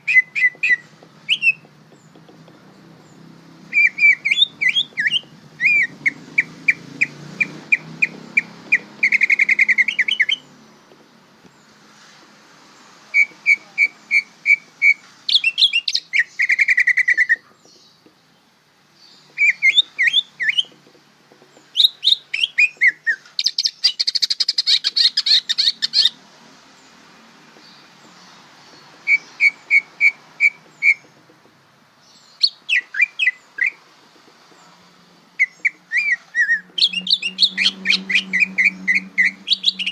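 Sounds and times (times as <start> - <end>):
bird singing chips and trills: 0.0 - 10.7, 13.1 - 26.2, 27.6 - 31.3, 32.0 - 33.8, 35.3 - 39.9.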